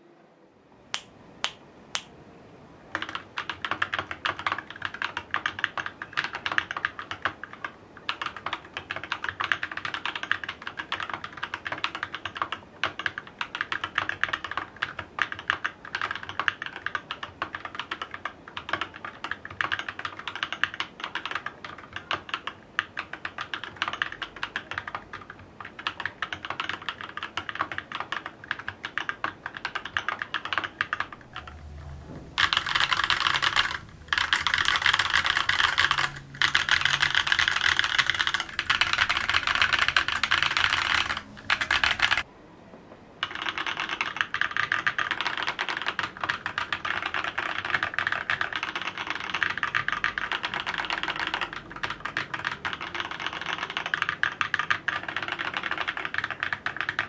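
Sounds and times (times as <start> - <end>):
muted mechanical keyboard typing: 2.9 - 42.3, 43.2 - 57.0
loud bright keyboard clatter: 3.0 - 42.2, 43.2 - 57.0.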